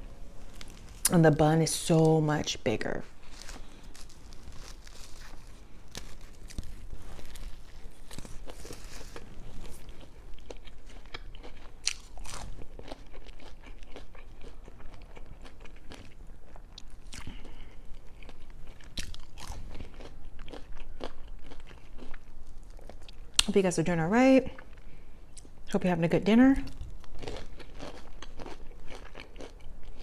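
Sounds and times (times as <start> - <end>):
chewing and crunching food: 0.2 - 1.2, 2.8 - 23.6, 26.6 - 30.0.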